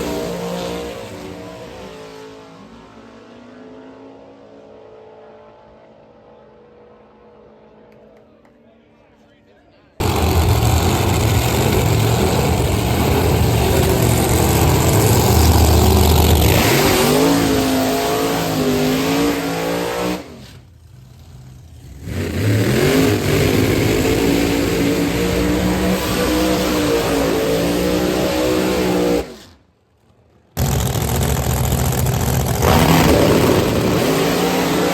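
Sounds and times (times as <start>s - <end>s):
race car engines revving: 0.0s - 8.1s, 10.0s - 34.9s.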